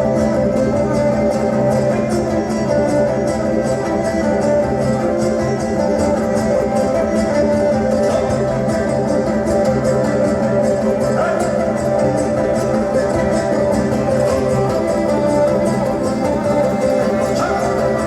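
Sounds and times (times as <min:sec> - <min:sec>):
bowed string line: 0:00.0 - 0:18.0
plucked strings strumming: 0:00.0 - 0:18.0.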